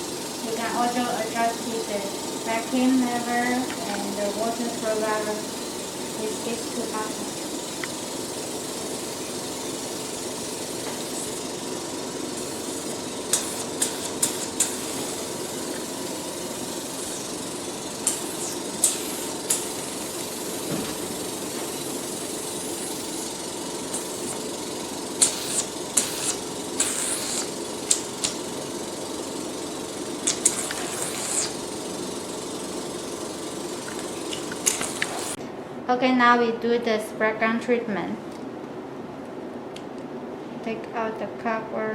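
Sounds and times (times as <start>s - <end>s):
sharp hissing bursts: 0.0s - 35.4s
vacuum pump humming and hissing: 0.0s - 35.9s.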